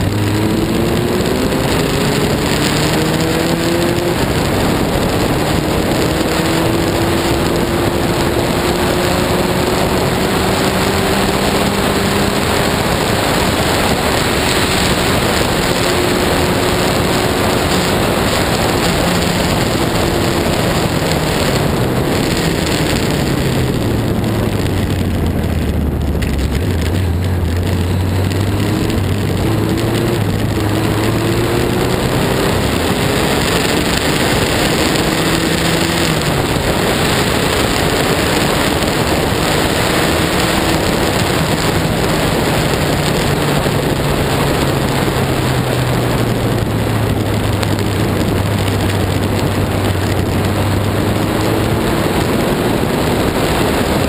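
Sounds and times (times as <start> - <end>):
racing car engine accelerating: 0.0 - 54.0.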